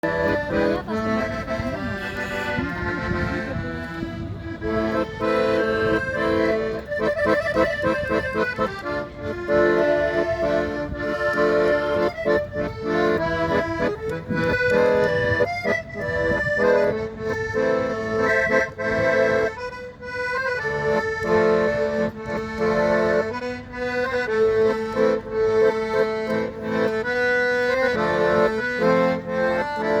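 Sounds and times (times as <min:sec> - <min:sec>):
accordion music: 0:00.0 - 0:30.0.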